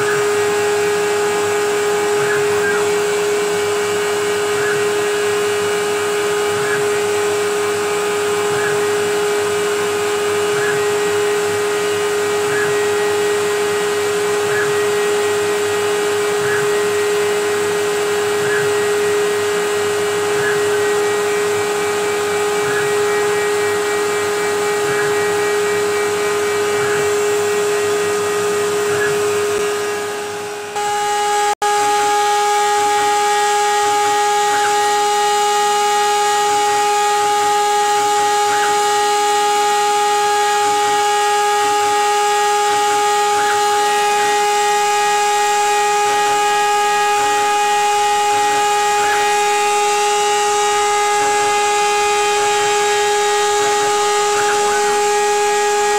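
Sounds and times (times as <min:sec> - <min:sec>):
router spindle whining: 0:00.0 - 0:55.9
vacuum hiss: 0:00.0 - 0:55.9.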